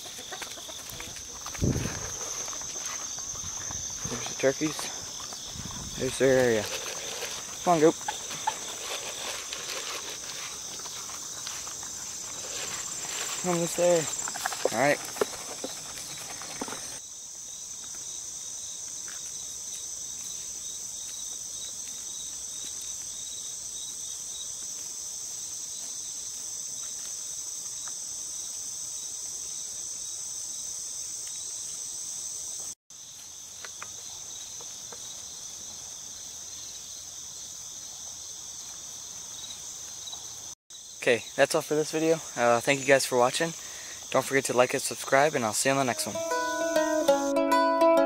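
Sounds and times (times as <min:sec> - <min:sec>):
high-pitched insect chorus: 0:00.0 - 0:47.4.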